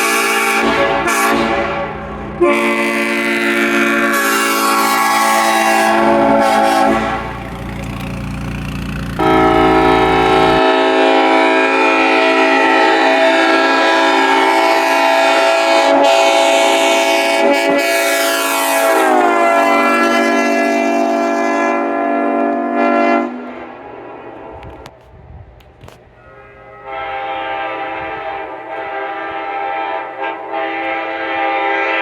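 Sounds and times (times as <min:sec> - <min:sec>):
locomotive air horn blast: 0:00.0 - 0:07.7, 0:09.1 - 0:24.8, 0:26.2 - 0:32.0.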